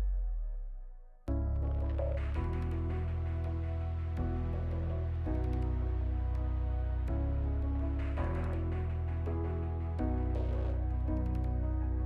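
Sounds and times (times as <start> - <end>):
background music of held chords: 0.0 - 12.0.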